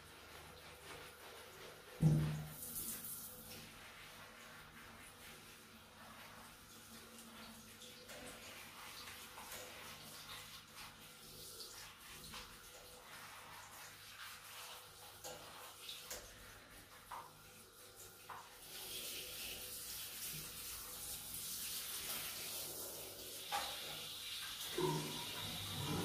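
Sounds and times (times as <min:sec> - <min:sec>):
shower spray hissing: 0:00.0 - 0:07.5, 0:08.3 - 0:26.0.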